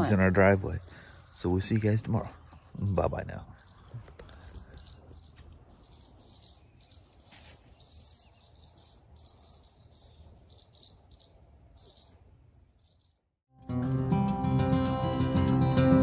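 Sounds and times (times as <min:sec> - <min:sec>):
swallows twittering: 0:00.0 - 0:13.3.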